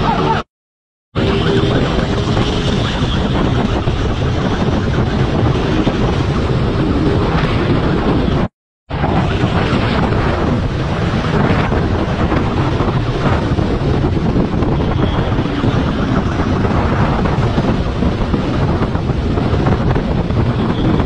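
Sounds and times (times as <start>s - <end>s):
motorcycle engine rushing: 1.2s - 21.0s
wind buffeting microphone: 1.2s - 21.0s.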